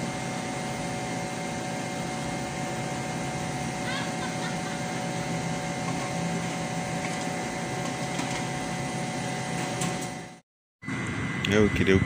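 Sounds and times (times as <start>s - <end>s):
ventilation fan running: 0.0s - 12.0s.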